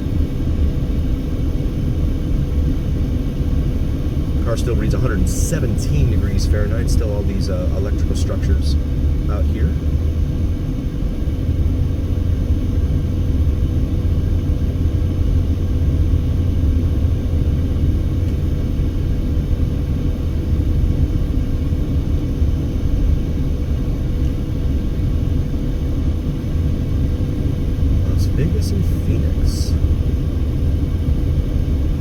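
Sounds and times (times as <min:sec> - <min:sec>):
car engine and tyres rumbling: 0:00.0 - 0:32.0
faint steady whine: 0:00.0 - 0:32.0.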